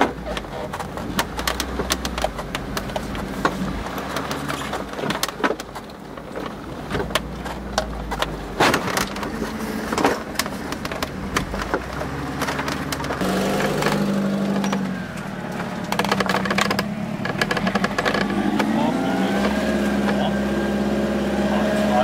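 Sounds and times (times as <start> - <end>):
knocks and clatter: 0.0 - 20.2
off-road vehicle engine running: 0.0 - 22.0.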